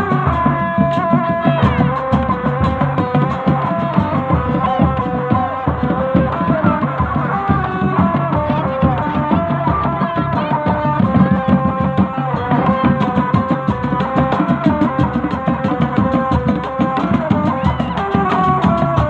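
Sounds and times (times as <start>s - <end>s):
hand drums beating: 0.0s - 19.0s.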